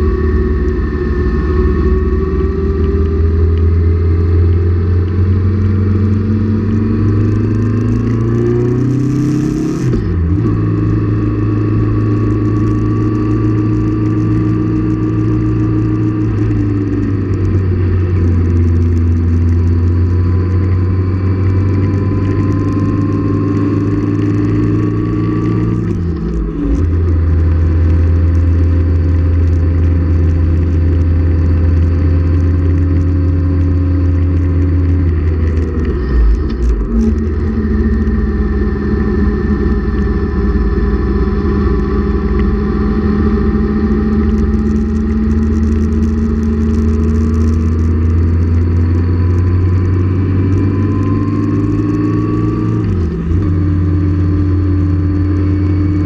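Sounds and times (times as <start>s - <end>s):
motorcycle engine running: 0.0s - 56.0s
road and wind rush: 0.0s - 56.0s.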